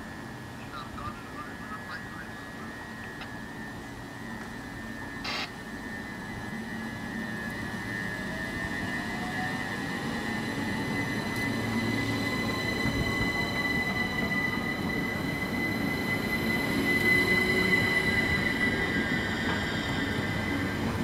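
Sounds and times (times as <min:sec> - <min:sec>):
electric train whine: 0:00.0 - 0:21.0
train running rumble: 0:00.0 - 0:21.0
whine rising in pitch: 0:01.3 - 0:21.0.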